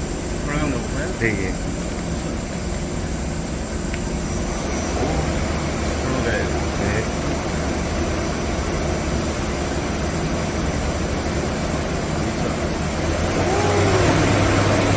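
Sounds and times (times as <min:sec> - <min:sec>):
lathe machine running: 0:00.0 - 0:14.9.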